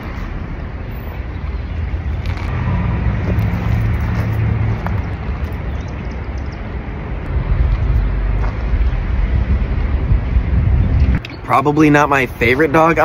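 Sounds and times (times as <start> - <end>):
car engine rumble: 0.0 - 13.0
road traffic: 0.0 - 13.0.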